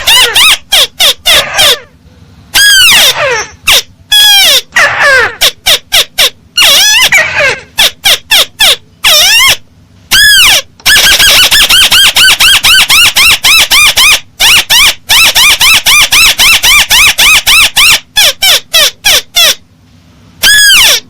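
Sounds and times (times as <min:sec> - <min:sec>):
recorded bird call: 0:00.0 - 0:01.9, 0:02.6 - 0:19.6, 0:20.4 - 0:21.0.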